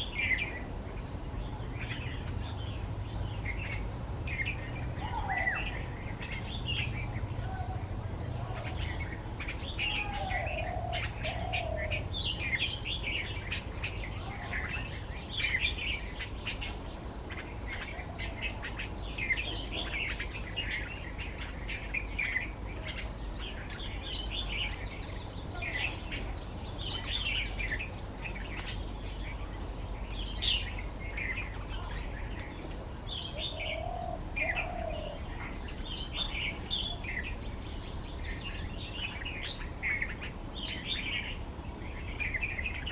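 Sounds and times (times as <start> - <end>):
bird chirping song: 0.0 - 42.9
low background rumble: 0.0 - 42.9
low slurred bird notes: 0.0 - 42.9.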